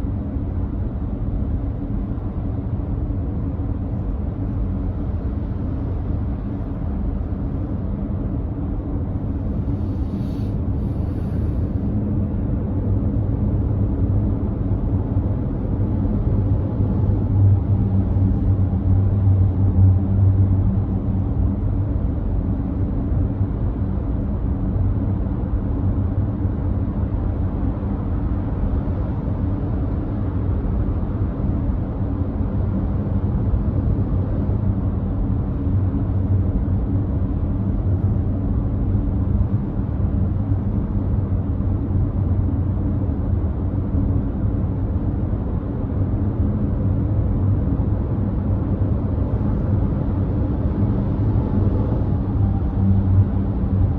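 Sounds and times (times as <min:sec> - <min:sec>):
road and tyre noise: 0:00.0 - 0:53.9.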